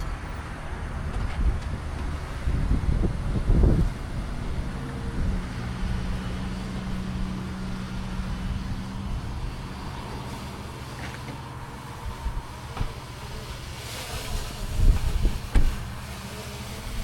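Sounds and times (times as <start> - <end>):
road noise: 0.0 - 17.0
vehicle engine humming: 0.0 - 17.0.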